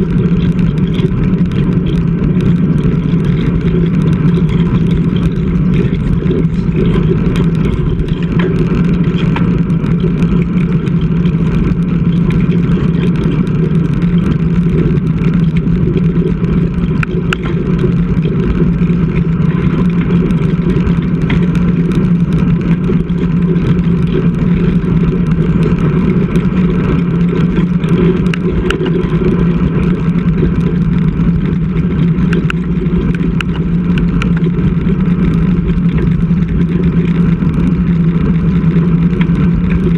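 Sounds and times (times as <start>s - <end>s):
wind and tyre rumble: 0.0s - 39.9s.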